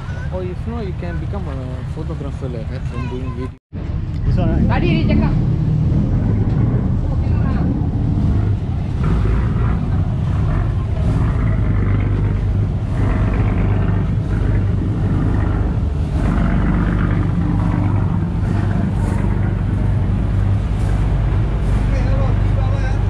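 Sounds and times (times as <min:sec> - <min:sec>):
diesel engines idling: 0:00.0 - 0:23.0.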